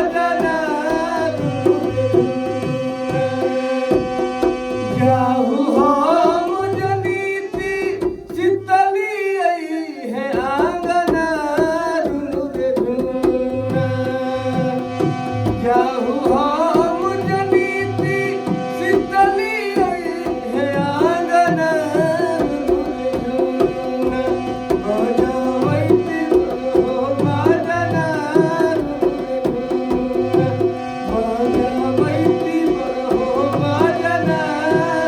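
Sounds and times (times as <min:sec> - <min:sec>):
hand drums: 0:00.0 - 0:08.9, 0:10.2 - 0:35.0.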